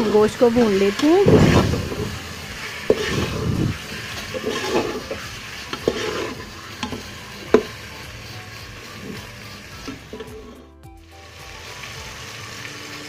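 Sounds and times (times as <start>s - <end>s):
metal spoon scraping: 0.0s - 10.8s
meat sizzling in a pot: 0.0s - 13.0s.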